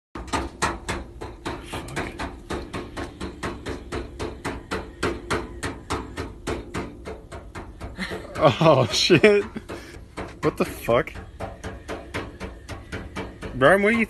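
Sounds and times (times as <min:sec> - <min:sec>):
low steady hum: 0:00.2 - 0:14.0
sharp knocking: 0:00.2 - 0:14.0.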